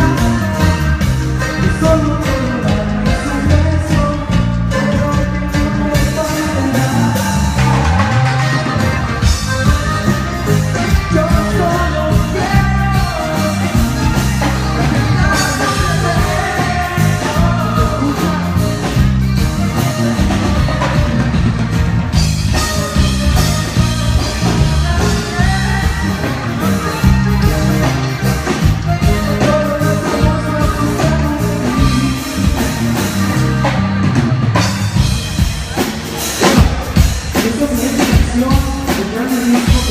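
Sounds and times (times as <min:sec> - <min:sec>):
lead singer singing: 0:00.0 - 0:21.4, 0:22.1 - 0:34.7, 0:35.4 - 0:39.9
live band playing: 0:00.0 - 0:39.9.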